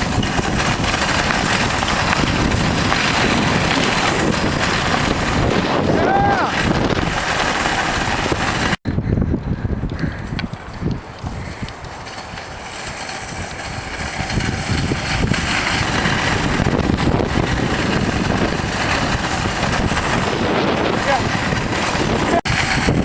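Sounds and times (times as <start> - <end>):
cart wheels rattling on pavement: 0.0 - 8.8, 9.9 - 23.0
wind on microphone: 0.0 - 23.0.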